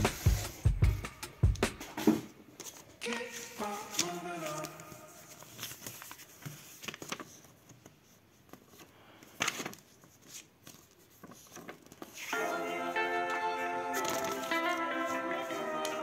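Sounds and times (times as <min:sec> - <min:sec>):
paper pages flipping: 0:02.0 - 0:12.5, 0:13.2 - 0:16.0.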